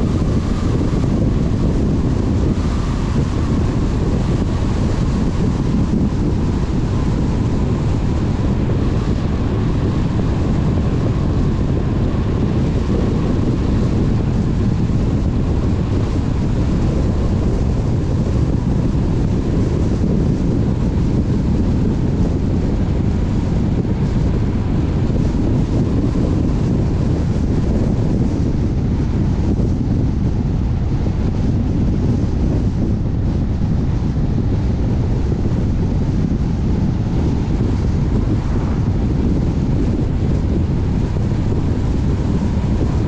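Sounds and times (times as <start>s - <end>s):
car rumble with tyre noise: 0.0s - 43.0s
faint steady whine: 0.0s - 43.0s.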